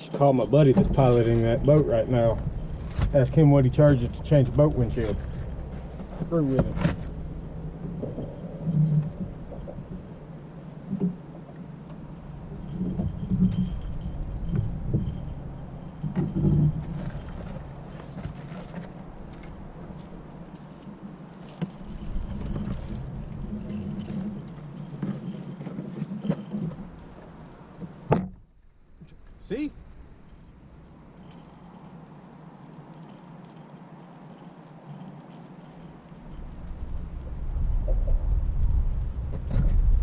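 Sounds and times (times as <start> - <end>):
constant low hum: 0.0 - 40.0
gear rattling and clinking: 0.0 - 40.0.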